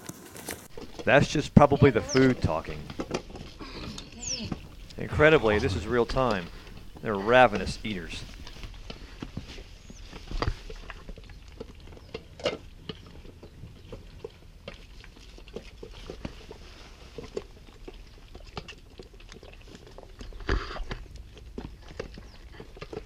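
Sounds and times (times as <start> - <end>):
cheetah cubs eating: 0.4 - 23.0.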